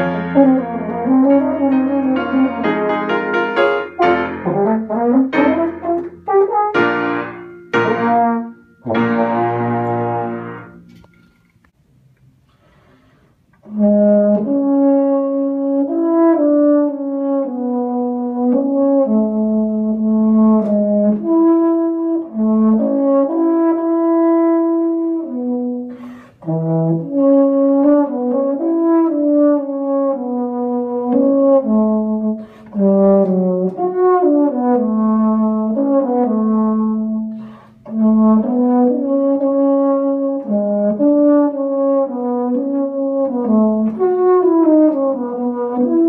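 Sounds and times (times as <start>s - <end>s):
brass instrument melody: 0.0s - 11.3s, 13.6s - 46.0s.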